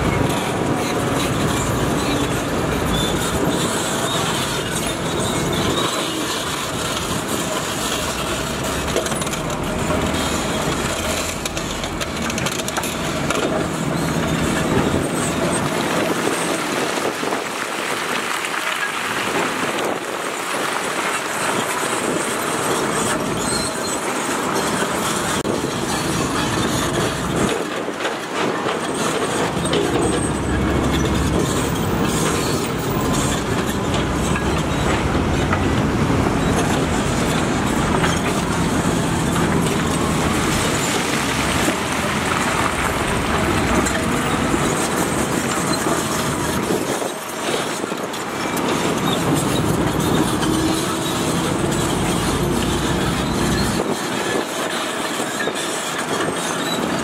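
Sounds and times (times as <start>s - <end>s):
heavy machinery engines running: 0.0s - 17.4s, 18.2s - 57.0s.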